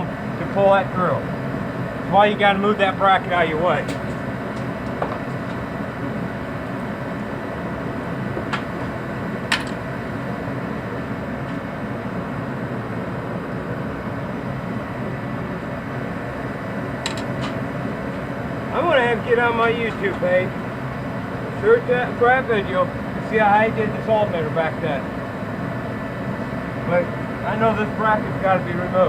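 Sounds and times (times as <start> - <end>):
mechanical hum: 0.0 - 29.0.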